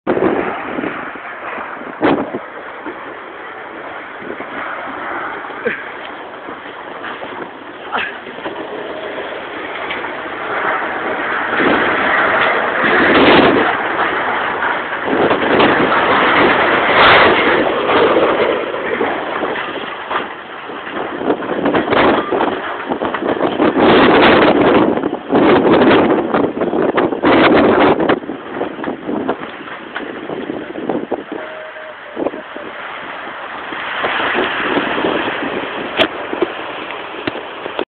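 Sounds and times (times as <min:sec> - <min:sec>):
wind blowing on microphone: 0:00.0 - 0:37.8.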